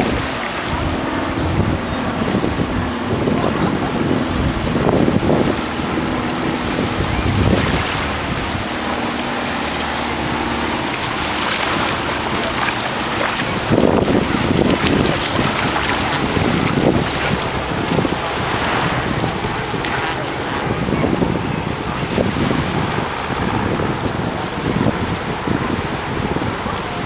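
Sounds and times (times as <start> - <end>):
surf splashing over seawall: 0.0 - 27.0
wind buffeting microphone: 0.0 - 27.0.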